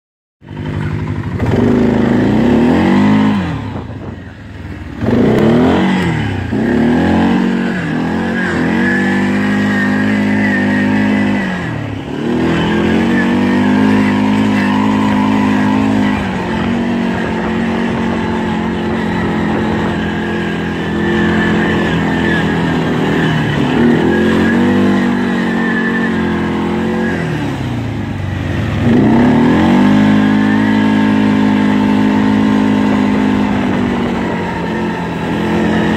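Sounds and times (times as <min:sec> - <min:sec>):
atv engine revving: 0:00.4 - 0:35.9.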